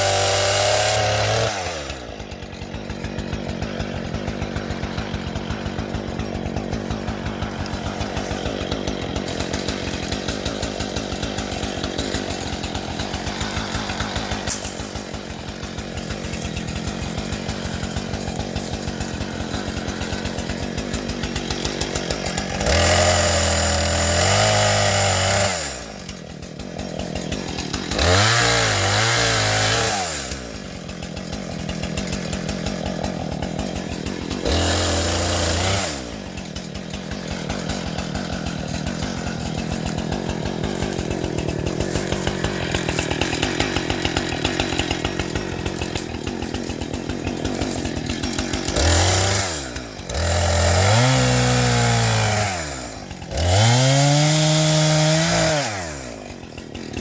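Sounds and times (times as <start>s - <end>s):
engine revving: 0.0s - 2.1s, 6.5s - 26.0s, 27.1s - 30.6s, 31.8s - 56.2s.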